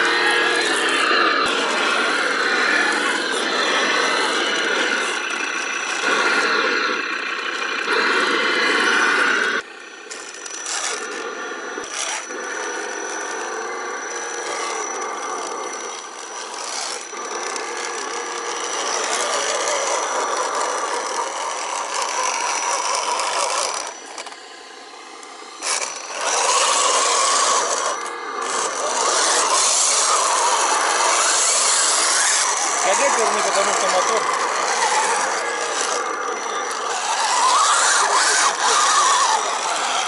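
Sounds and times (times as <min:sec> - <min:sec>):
thin high whine: 0:00.0 - 0:40.0
toy truck motors whirring: 0:00.0 - 0:40.0.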